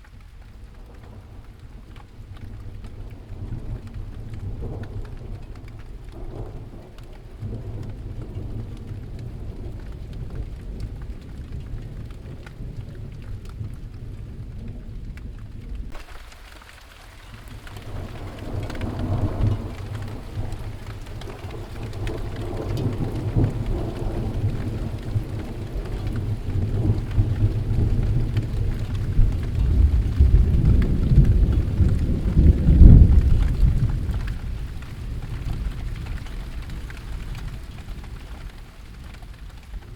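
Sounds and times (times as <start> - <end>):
steady rain: 0.0 - 39.9
rolling thunder: 0.5 - 16.3, 17.2 - 39.9.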